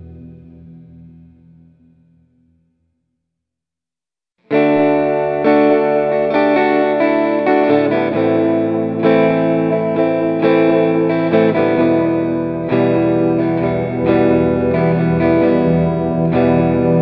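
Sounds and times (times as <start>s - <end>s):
guitar instrumental music: 0.0s - 2.6s, 4.4s - 17.0s.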